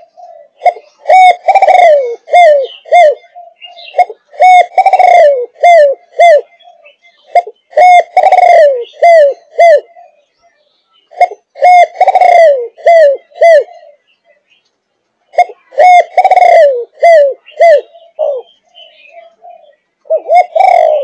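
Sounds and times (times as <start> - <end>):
dove cooing: 0.0 - 10.3, 11.0 - 14.4, 15.2 - 21.0.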